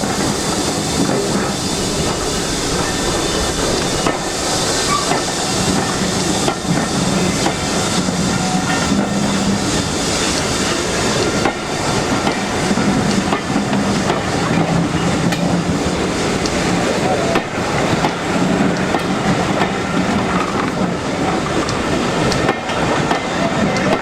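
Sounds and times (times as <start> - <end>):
train rushing on tracks: 0.0 - 24.0.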